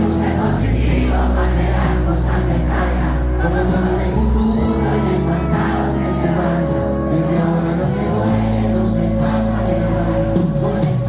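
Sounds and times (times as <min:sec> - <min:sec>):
crowd voices: 0:00.0 - 0:11.0
live band playing over pa: 0:00.0 - 0:11.0.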